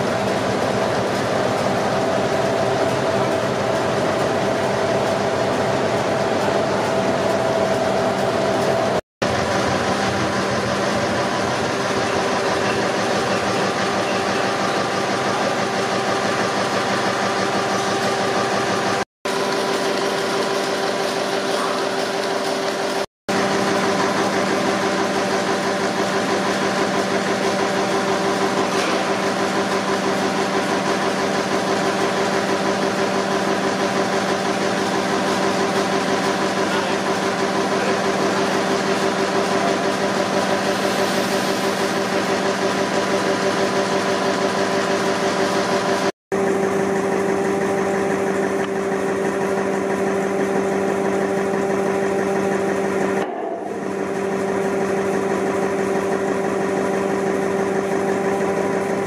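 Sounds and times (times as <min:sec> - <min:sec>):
stationary engines running: 0:00.0 - 0:59.0.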